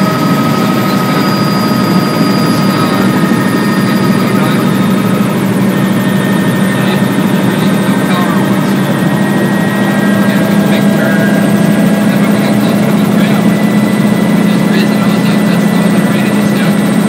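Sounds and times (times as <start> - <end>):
faint high whine: 0.0 - 16.8
helicopter engine and rotor drone: 0.0 - 17.0.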